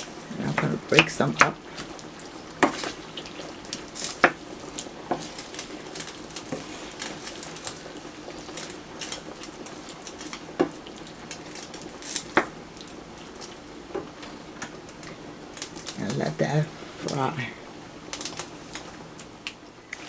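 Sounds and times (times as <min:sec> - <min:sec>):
utensil stirring in pot: 0:00.0 - 0:19.2
light sizzle of simmering sauce: 0:00.0 - 0:20.0.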